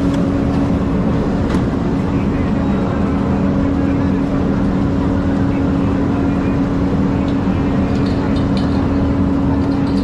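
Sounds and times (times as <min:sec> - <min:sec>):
engine droning steadily: 0:00.0 - 0:10.0.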